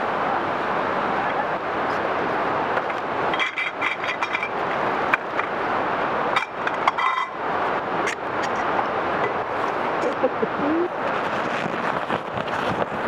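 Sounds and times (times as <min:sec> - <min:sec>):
steady outdoor rushing noise: 0:00.0 - 0:13.0.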